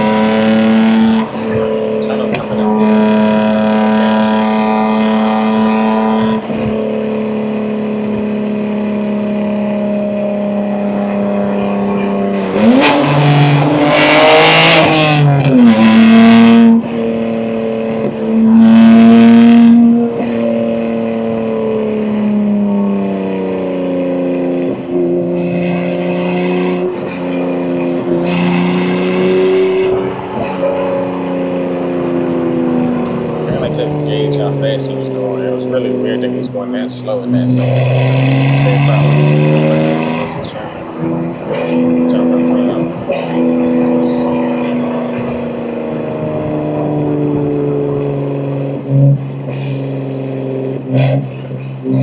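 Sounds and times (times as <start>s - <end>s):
car engine accelerating hard: 0.0s - 52.0s
engine throttle surges: 0.0s - 52.0s.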